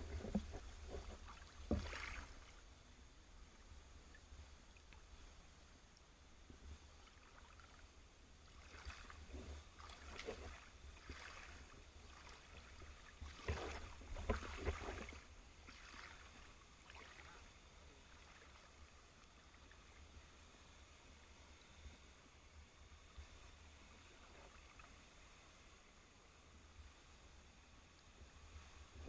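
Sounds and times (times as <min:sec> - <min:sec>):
water sloshing and bubbling: 0:00.0 - 0:29.0.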